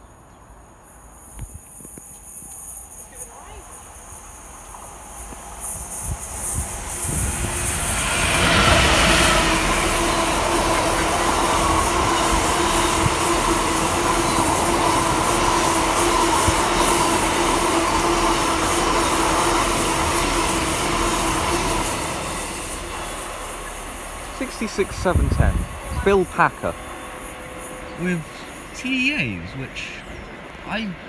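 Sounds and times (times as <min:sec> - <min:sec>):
diesel locomotive passing: 0:00.4 - 0:31.0.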